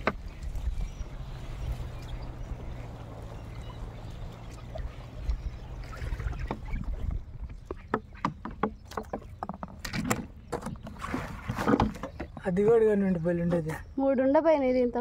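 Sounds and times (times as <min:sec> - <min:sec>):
sharp splashes and clicks: 0:00.0 - 0:12.4
water splashing and dripping: 0:00.0 - 0:13.2.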